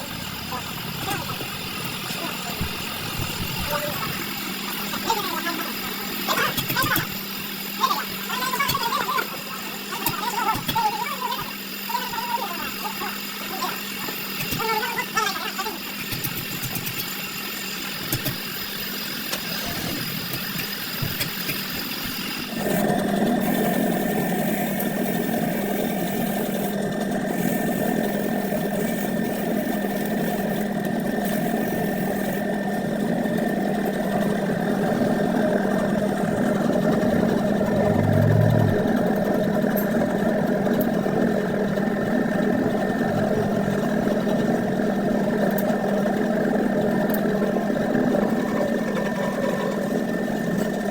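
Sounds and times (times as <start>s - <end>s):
motor humming: 0.0s - 50.9s.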